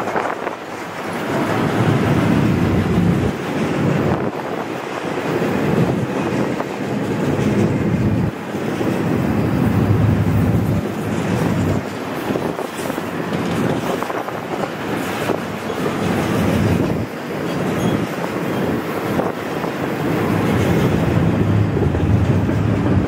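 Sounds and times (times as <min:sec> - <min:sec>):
freight train wheels clattering: 0:00.0 - 0:23.0.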